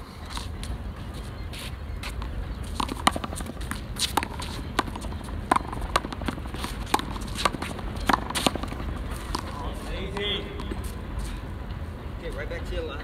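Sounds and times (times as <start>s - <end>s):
low steady rumble: 0.0s - 13.0s
sneaker steps and scuffs: 0.3s - 11.5s.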